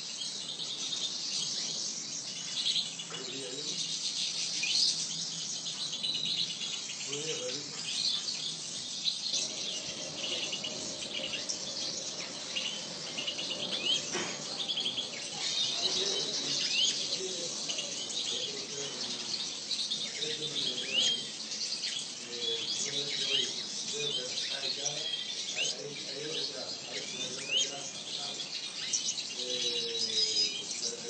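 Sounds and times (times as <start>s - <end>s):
finches chirping and twittering: 0.0s - 31.0s.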